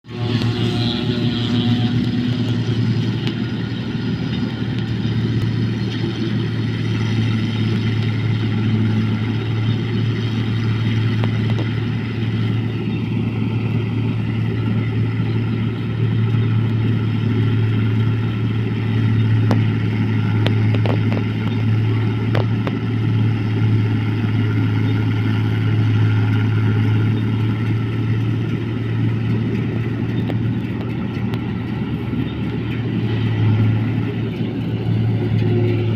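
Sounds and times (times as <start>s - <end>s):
machine engine droning: 0.0s - 35.9s.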